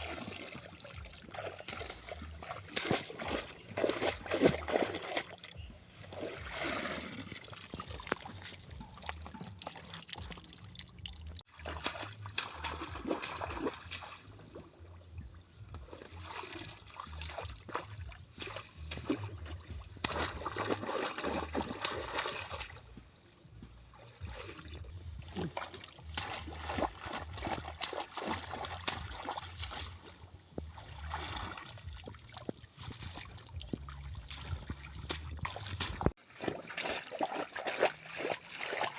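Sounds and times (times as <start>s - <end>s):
river water splashing and trickling: 0.0s - 38.9s.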